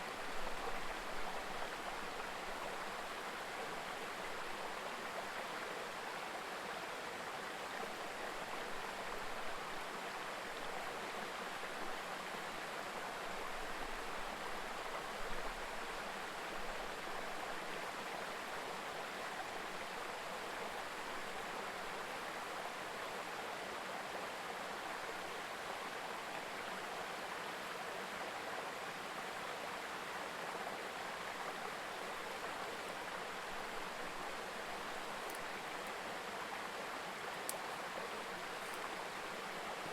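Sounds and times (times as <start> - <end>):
river babbling: 0.1 - 39.9.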